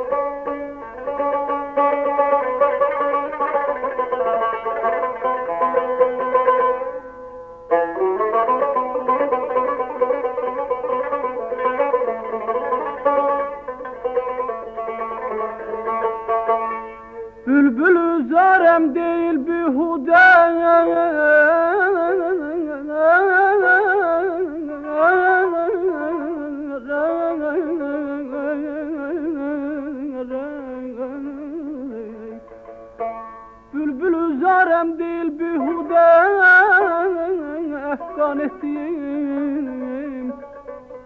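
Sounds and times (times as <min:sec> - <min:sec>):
string accompaniment: 0:00.0 - 0:41.0.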